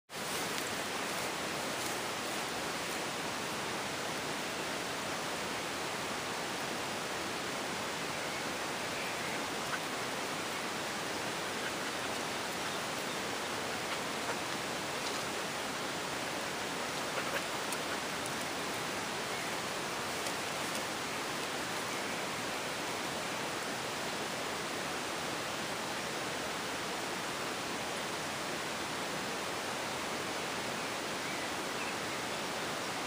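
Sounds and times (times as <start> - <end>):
steady hiss: 0.1 - 33.0.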